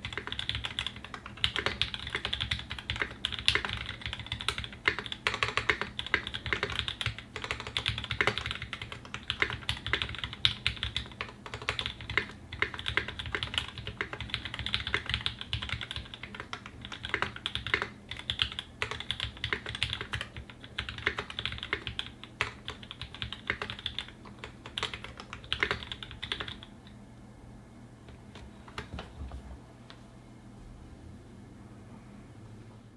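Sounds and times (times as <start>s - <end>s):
mechanical keyboard typing: 0.0s - 26.7s.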